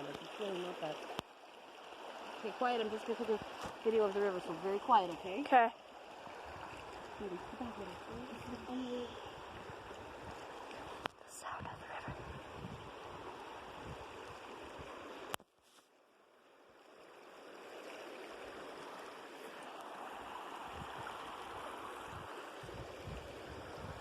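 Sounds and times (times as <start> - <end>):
river water flowing: 0.0 - 24.0.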